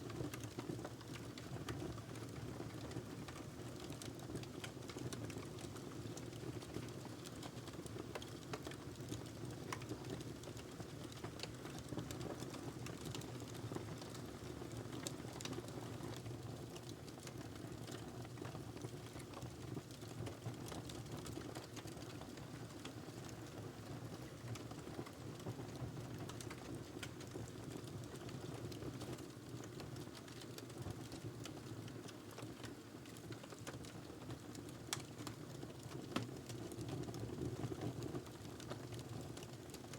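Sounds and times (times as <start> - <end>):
wood fire crackling and popping: 0.1 - 39.9.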